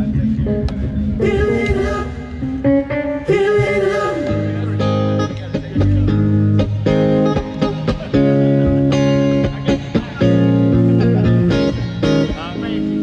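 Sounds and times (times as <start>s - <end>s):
guitar and bass chords: 0.0s - 13.0s.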